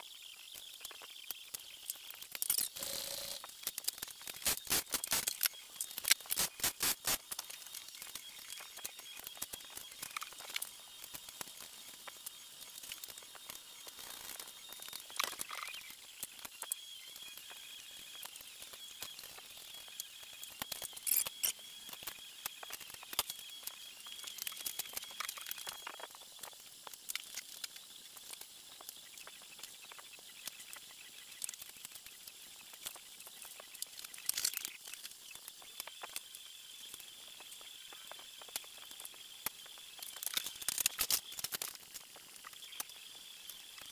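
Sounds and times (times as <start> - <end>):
faint steady high whine: 0.0 - 43.9.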